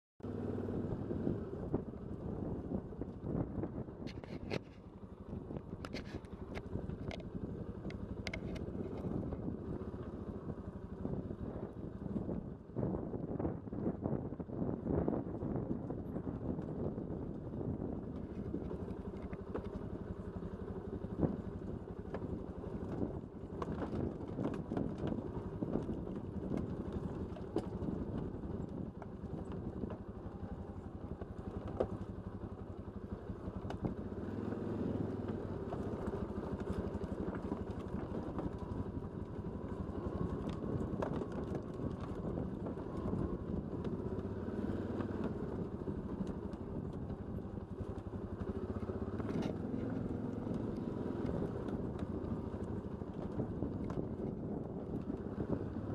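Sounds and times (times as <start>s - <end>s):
atv engine running: 0.2s - 55.9s.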